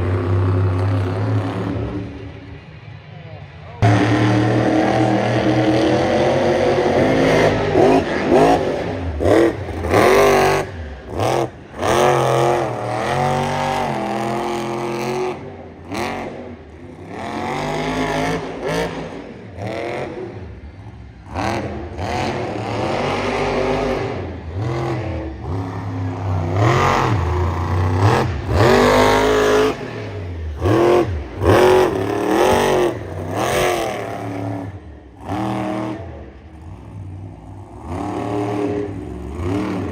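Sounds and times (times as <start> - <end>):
monster truck engine revving: 0.0 - 2.4, 3.7 - 39.9.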